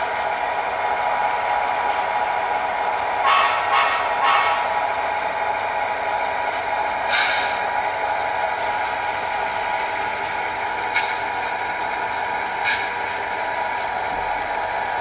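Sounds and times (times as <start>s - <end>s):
model locomotive engine sound: 0.0s - 15.0s.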